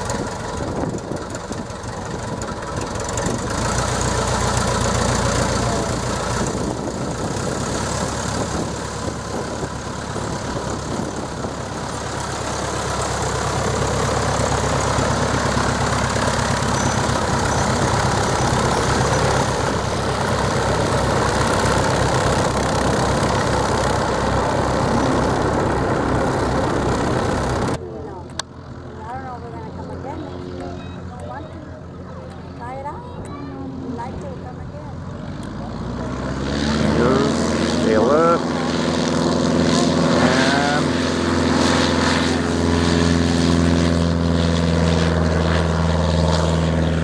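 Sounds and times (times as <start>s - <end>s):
light plane engine taxiing: 0.0s - 47.0s.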